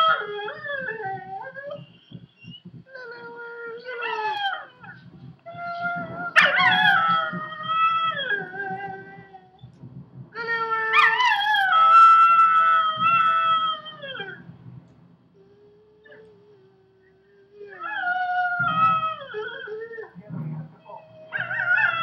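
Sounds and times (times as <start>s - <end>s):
dog howling: 0.0s - 9.6s, 10.4s - 14.5s, 15.4s - 22.0s.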